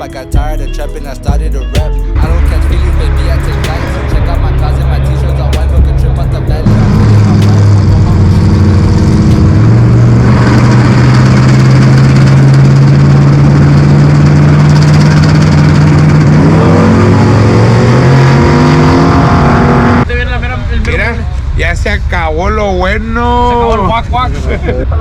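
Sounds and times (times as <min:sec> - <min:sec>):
vehicle engine revving high: 0:00.0 - 0:20.2.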